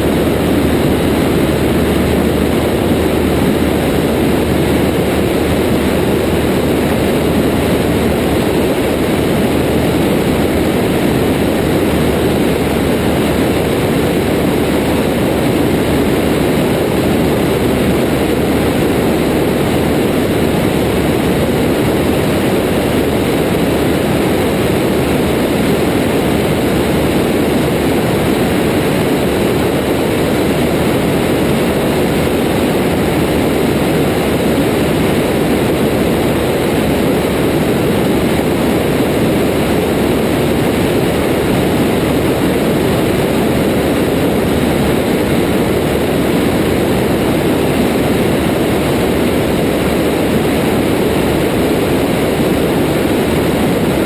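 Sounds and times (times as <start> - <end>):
propeller aircraft engine drone: 0.0 - 54.0.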